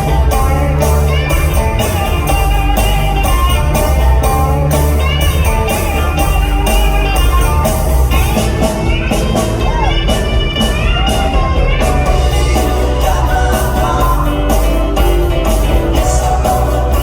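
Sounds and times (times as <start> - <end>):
drums keeping steady beat: 0.0 - 17.0
rock band playing: 0.0 - 17.0.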